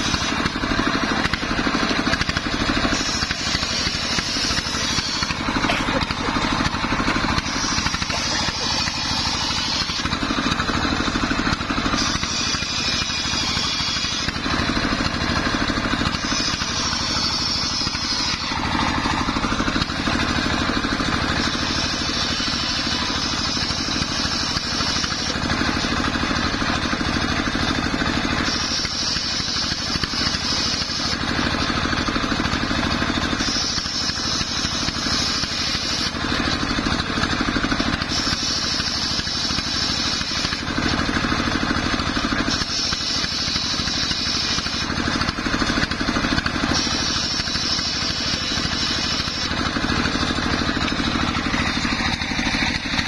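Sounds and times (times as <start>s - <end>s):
circular saw cutting wood: 0.0s - 53.0s
engine running: 0.0s - 53.0s.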